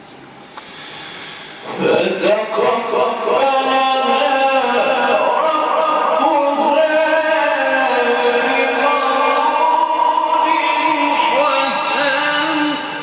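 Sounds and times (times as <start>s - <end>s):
man chanting recitation: 1.6s - 13.0s.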